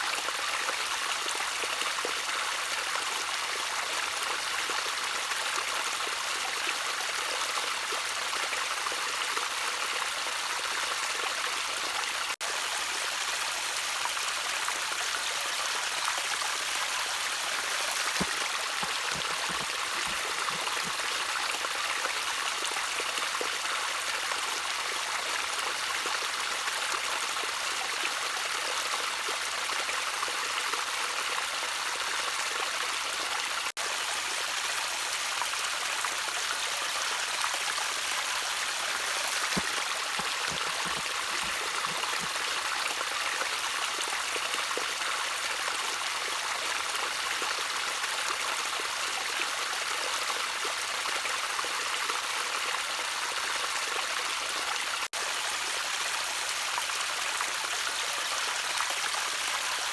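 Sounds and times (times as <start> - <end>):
stream of water trickling: 0.0 - 59.9.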